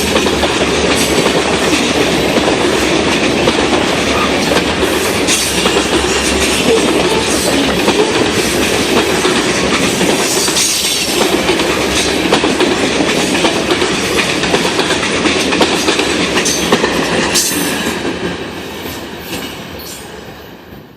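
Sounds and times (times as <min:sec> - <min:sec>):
train wheels clacking on rail joints: 0:00.0 - 0:20.0.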